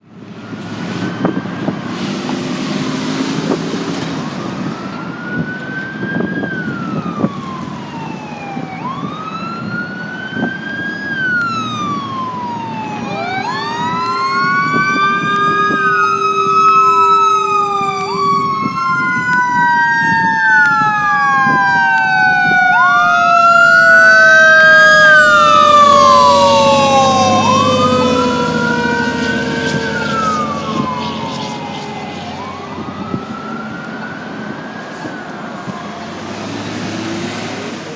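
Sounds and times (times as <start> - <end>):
fire truck siren wailing: 0.0 - 37.9
truck engine rumble: 0.0 - 37.9
deeper siren winding: 0.5 - 37.4.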